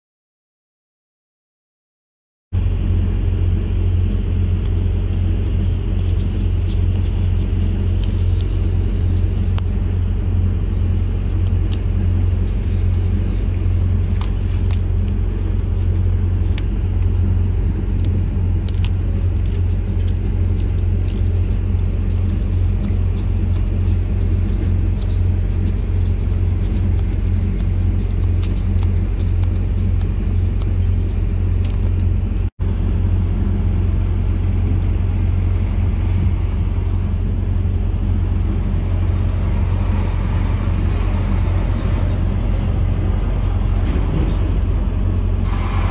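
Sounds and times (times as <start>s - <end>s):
engine idling: 2.6s - 45.9s.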